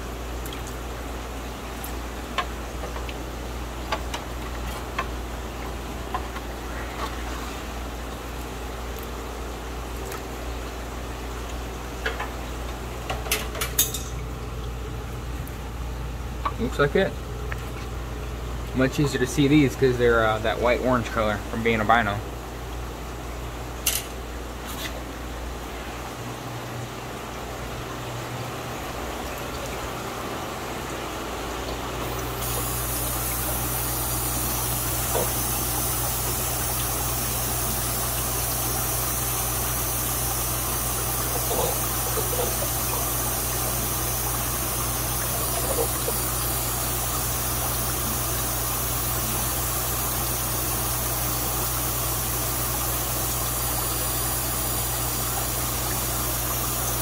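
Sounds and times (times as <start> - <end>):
water pumps humming: 0.0 - 57.0.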